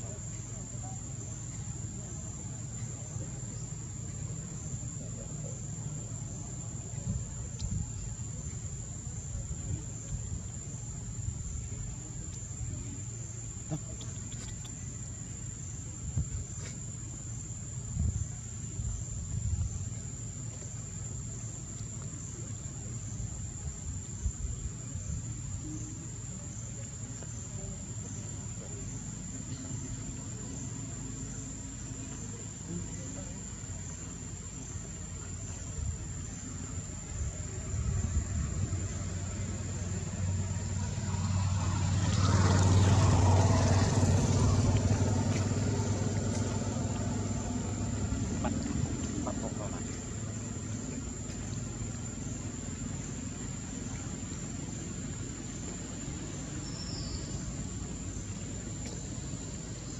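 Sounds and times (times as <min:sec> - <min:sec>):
insects buzzing: 0:00.0 - 0:59.9
low background rumble: 0:00.0 - 0:59.9.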